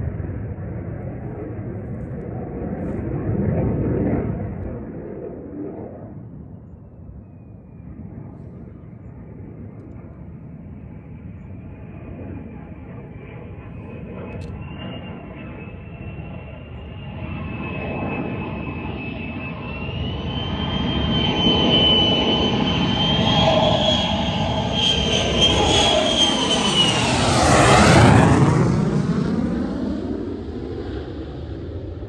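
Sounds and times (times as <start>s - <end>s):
jet engine roaring past: 0.0s - 32.0s.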